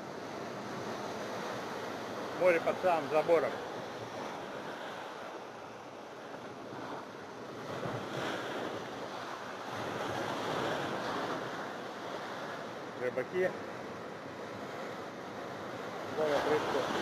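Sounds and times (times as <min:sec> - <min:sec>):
sea surf washing against wall: 0:00.0 - 0:05.4, 0:06.1 - 0:17.0.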